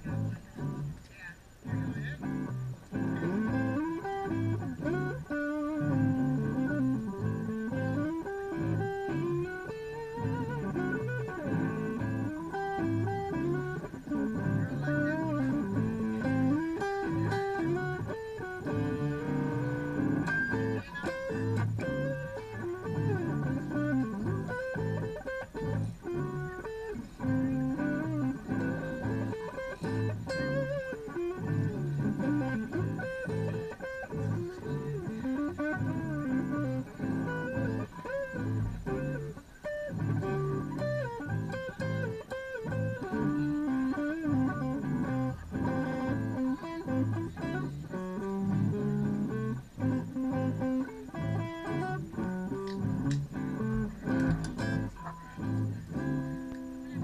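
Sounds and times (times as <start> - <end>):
electric guitar lead with bent notes: 0.0 - 57.0.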